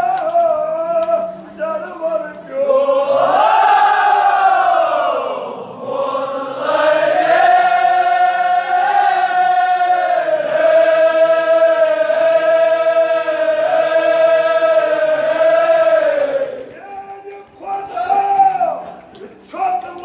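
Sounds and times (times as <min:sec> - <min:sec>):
men chanting: 0:00.0 - 0:18.2.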